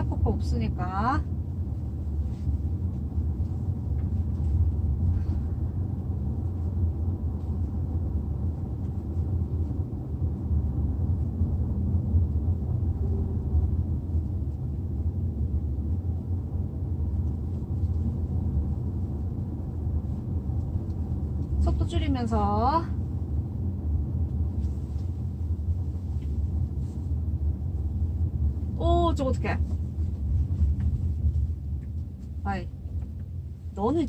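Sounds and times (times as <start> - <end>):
road and engine rumble in car: 0.0 - 34.0.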